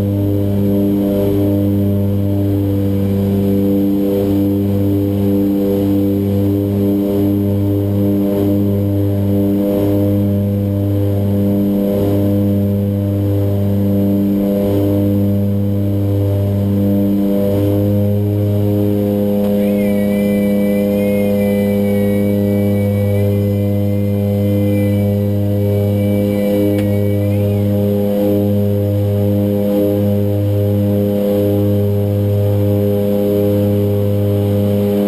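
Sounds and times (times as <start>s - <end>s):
turboprop engines droning: 0.0s - 35.0s.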